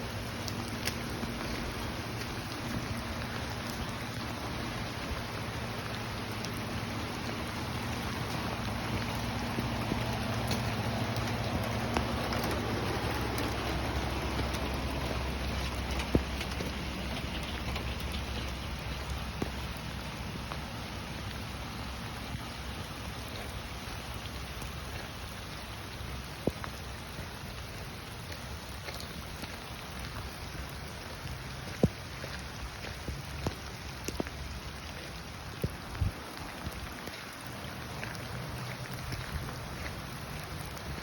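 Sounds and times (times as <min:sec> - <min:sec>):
rain pattering on surfaces: 0:00.0 - 0:41.0.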